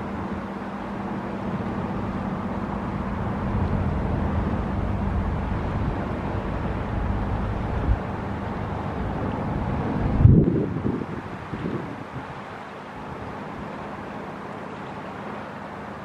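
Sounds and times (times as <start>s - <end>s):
wind rumbling on microphone: 0.0s - 14.4s
ferry engine drone: 0.0s - 16.0s.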